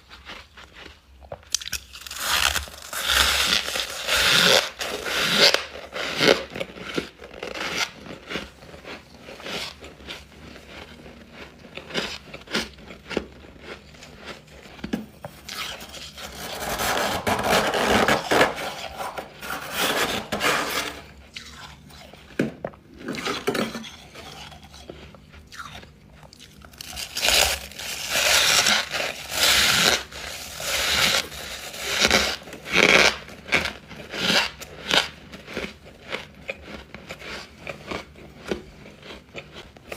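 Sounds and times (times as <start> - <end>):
chewing and crunching ice: 0.0 - 17.0, 20.7 - 39.9.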